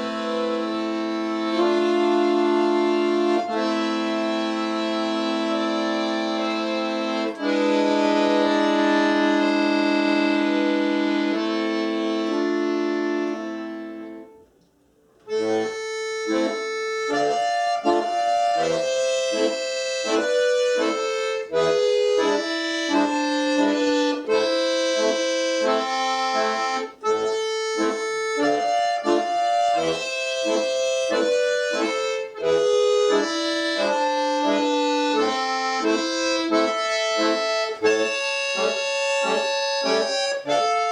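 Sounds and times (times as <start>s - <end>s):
accordion folk music: 0.0s - 40.9s.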